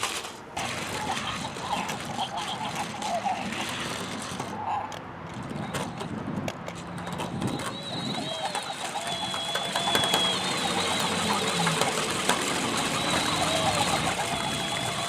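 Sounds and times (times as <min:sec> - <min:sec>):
toy electric motors whirring: 0:00.0 - 0:15.0
wheels clattering on floor: 0:00.0 - 0:15.0
toy sound effects: 0:00.6 - 0:06.2, 0:06.8 - 0:15.0.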